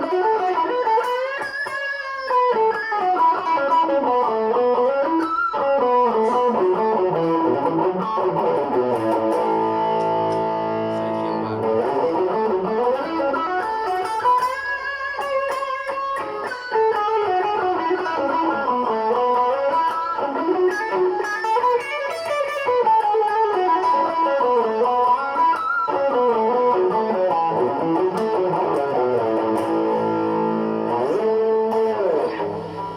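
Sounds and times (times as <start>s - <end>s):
distorted electric guitar lead: 0.0s - 32.9s.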